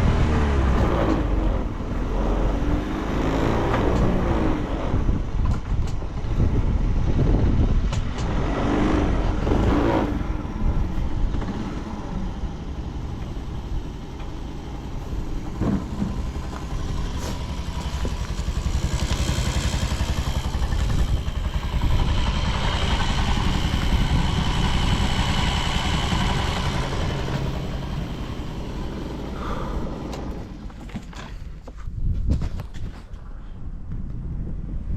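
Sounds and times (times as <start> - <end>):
moped engine running: 0.0 - 31.6.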